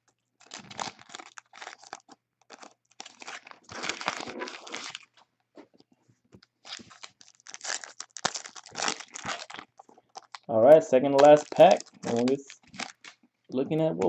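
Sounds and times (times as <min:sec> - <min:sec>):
packaging crinkling and rustling: 0:00.4 - 0:05.8, 0:06.4 - 0:13.8.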